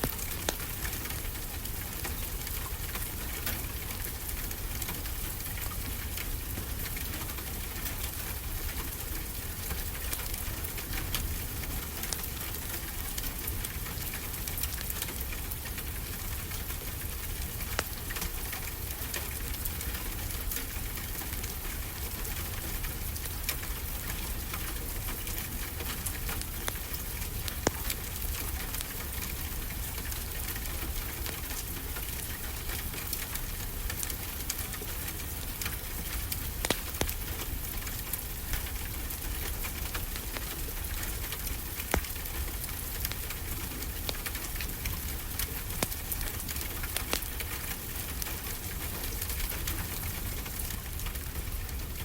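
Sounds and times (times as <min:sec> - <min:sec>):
steady rain falling: 0:00.0 - 0:52.0
wood fire crackling: 0:00.0 - 0:52.0.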